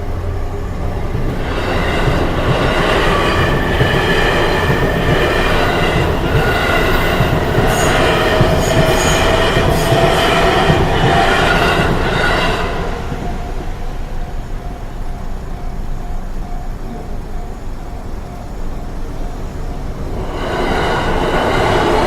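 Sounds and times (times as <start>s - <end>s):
heavy train rumble: 0.0s - 22.0s
train wheels squealing on rails: 0.0s - 22.0s.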